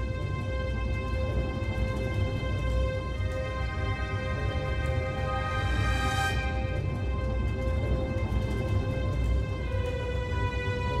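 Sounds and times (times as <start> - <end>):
sustained music chords: 0.1 - 11.0.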